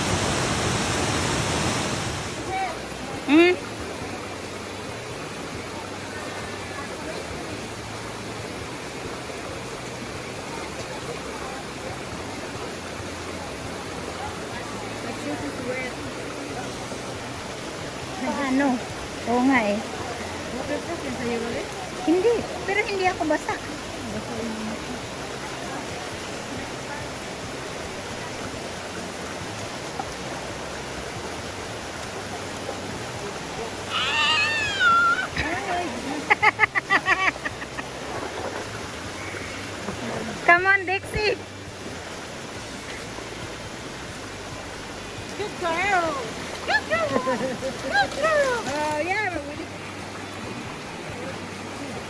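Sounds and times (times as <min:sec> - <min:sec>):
creek water running over rocks: 0:00.0 - 0:52.0.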